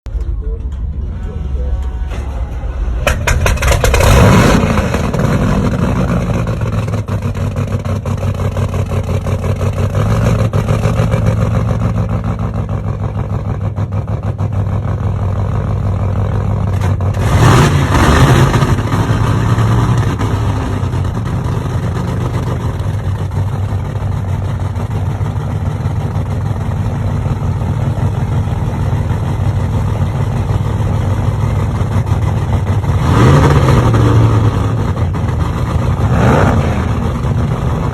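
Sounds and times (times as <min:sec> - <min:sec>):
engine running with low hum: 0:00.0 - 0:37.9.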